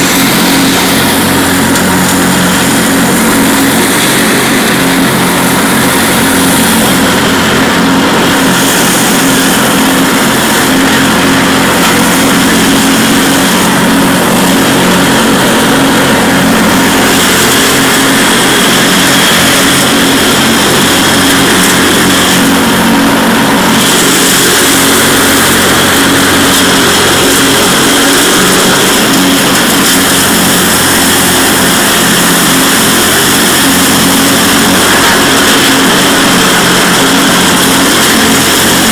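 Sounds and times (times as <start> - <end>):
lawn tractor engine drone: 0.0 - 38.9
mower deck rushing through leaves: 0.0 - 38.9.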